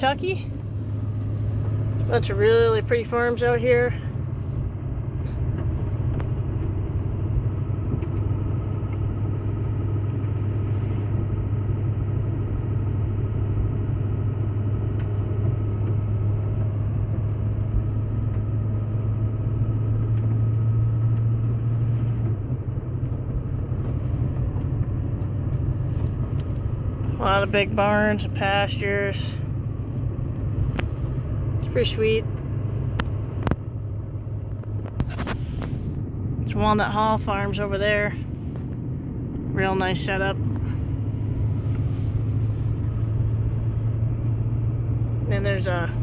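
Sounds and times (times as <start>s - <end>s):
low engine drone: 0.0s - 46.0s
tyre and road noise: 0.0s - 46.0s.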